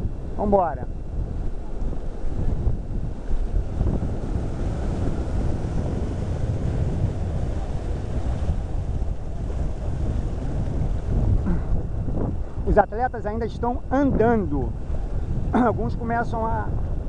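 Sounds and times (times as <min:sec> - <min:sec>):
heavy surf breaking: 0:00.0 - 0:17.0
wind buffeting microphone: 0:00.0 - 0:17.0.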